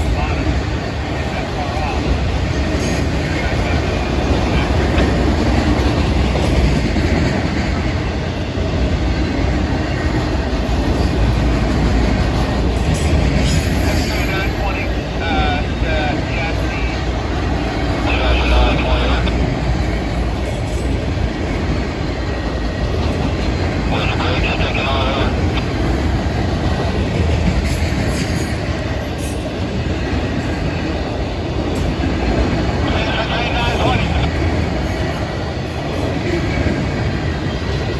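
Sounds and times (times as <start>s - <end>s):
freight train wheels rumbling on rail: 0.0s - 37.9s.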